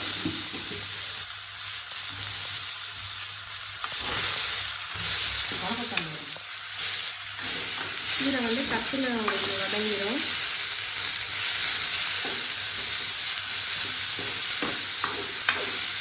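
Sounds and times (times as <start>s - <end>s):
greens sizzling in hot oil: 0.0s - 16.0s.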